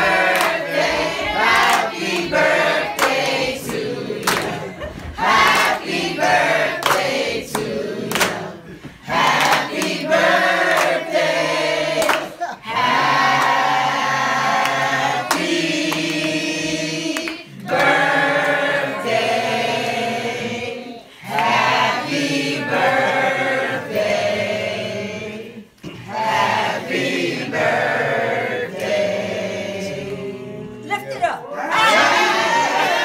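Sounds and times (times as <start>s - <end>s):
group of people singing: 0.0s - 33.0s.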